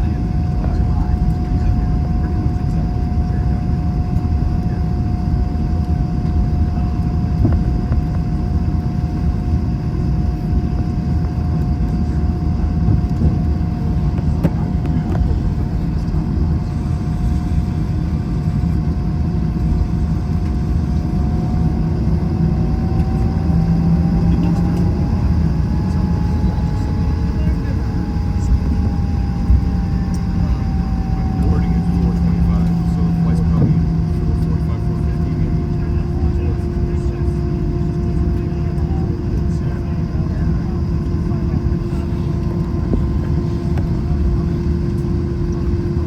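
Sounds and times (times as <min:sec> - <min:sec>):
engine whine: 0:00.0 - 0:46.0
jet engine cabin rumble: 0:00.0 - 0:46.0.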